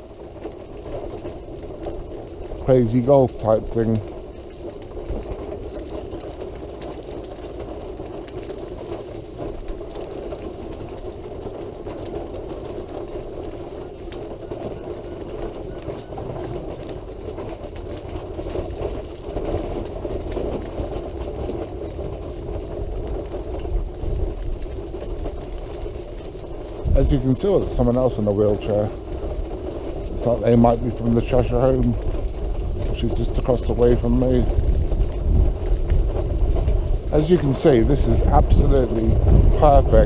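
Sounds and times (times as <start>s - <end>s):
wheelchair mechanical hum: 0.0s - 40.0s
wheels rolling on path: 0.0s - 40.0s.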